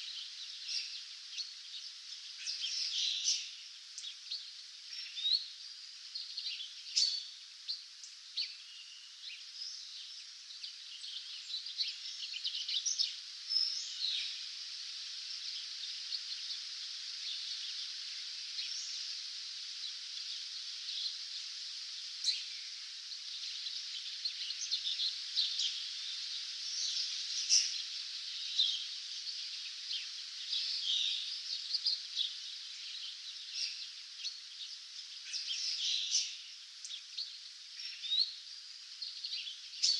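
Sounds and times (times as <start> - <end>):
songbirds chirping and trilling: 0.0 - 39.9
steady high hiss: 0.0 - 39.9.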